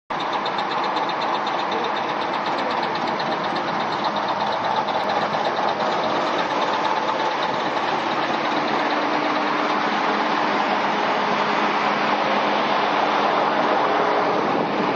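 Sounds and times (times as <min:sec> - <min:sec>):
diesel generator engine running: 0:00.1 - 0:14.9
rapid rhythmic engine clatter: 0:00.1 - 0:14.9.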